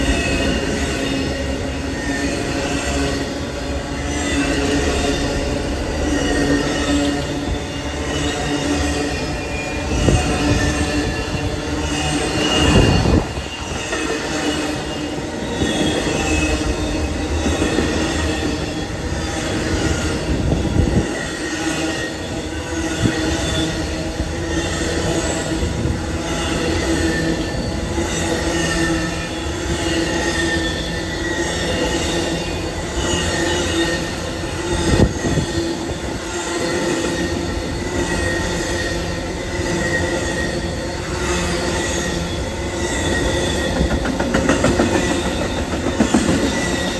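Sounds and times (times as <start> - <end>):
train wheels squealing on rails: 0.0 - 46.9.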